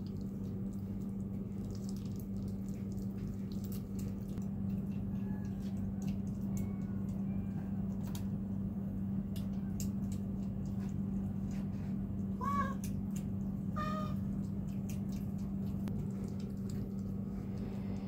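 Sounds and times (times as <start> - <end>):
cats lapping and licking: 0.0 - 18.0
steady low hum: 0.0 - 18.0.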